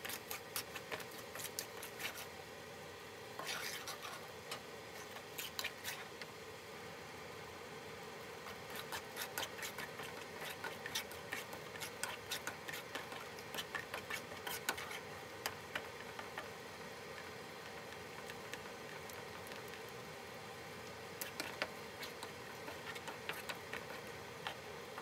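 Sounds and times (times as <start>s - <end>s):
spatula clicking and scraping in sauce: 0.0s - 2.3s, 3.4s - 6.3s, 8.4s - 20.2s, 20.8s - 25.0s
low background noise: 0.0s - 25.0s.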